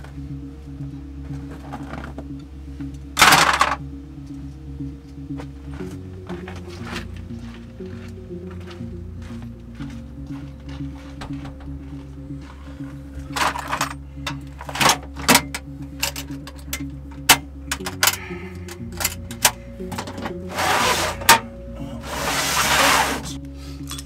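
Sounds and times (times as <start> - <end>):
background music with sustained chords: 0.0 - 24.0.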